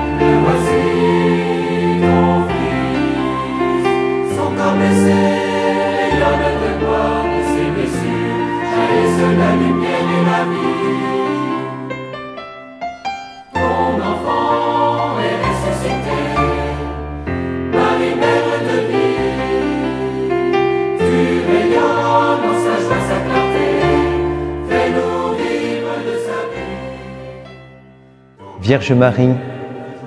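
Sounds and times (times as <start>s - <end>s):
choir singing sustained chords: 0.0s - 30.0s.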